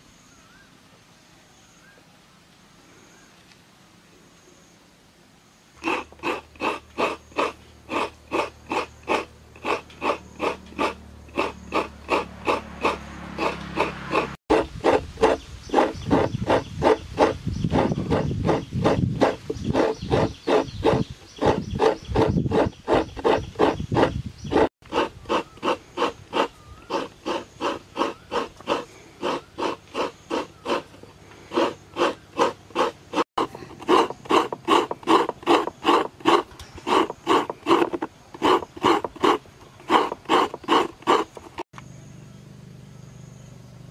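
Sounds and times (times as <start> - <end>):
coconut grater rasping: 5.8 - 41.7.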